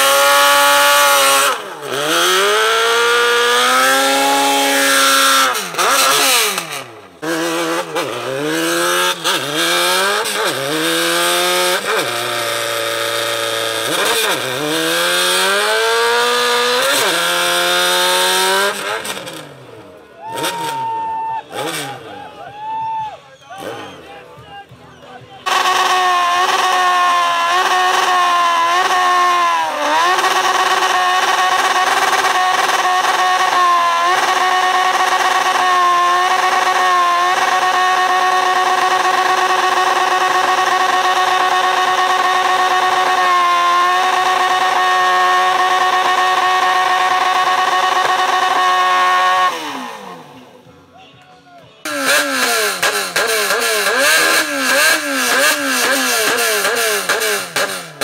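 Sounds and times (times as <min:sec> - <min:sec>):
motorcycle engine at high revs: 0:00.0 - 0:20.8, 0:21.5 - 0:22.2, 0:23.5 - 0:24.4, 0:25.4 - 0:50.7, 0:51.8 - 0:58.0.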